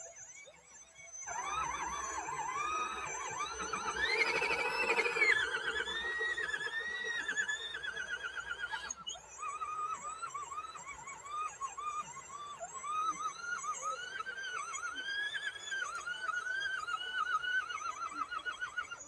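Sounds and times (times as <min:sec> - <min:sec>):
electric motors whining: 0:01.0 - 0:18.5.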